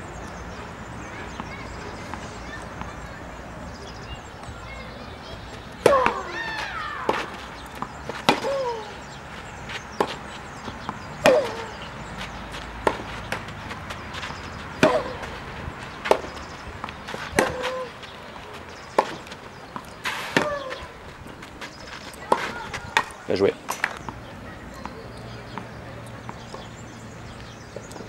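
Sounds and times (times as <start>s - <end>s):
racquets striking tennis ball: 5.0s - 28.0s.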